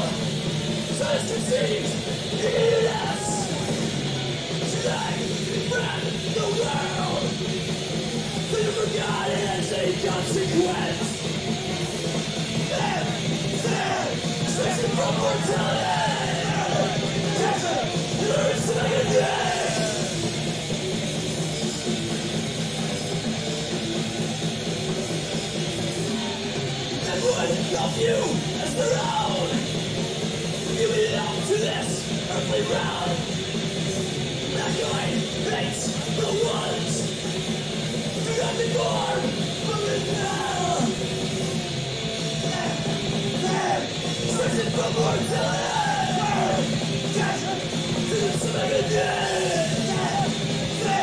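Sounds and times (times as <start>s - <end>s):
distorted electric guitars: 0.0s - 51.0s
drums: 0.0s - 51.0s
metal band playing live: 0.0s - 51.0s.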